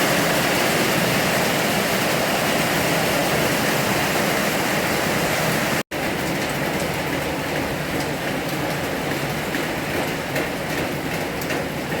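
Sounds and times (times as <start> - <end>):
heavy rain downpour: 0.0 - 12.0.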